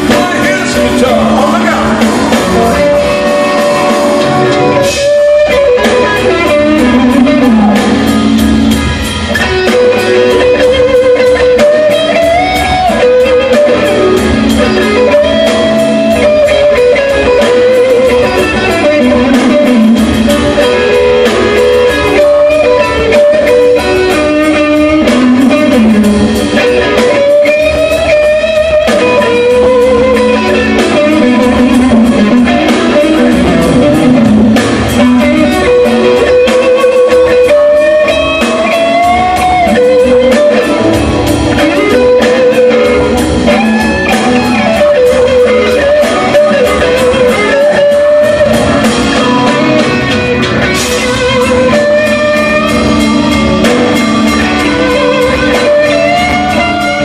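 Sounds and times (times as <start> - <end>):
electric guitars: 0.0 - 57.0
live rock band playing: 0.0 - 57.0.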